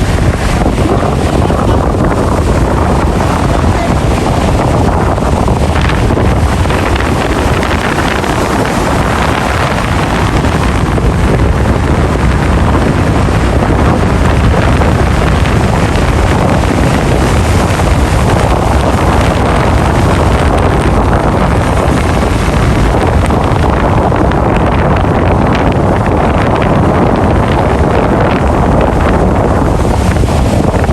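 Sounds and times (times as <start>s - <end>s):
sea waves washing in: 0.0s - 30.9s
wind rumbling on microphone: 0.0s - 30.9s.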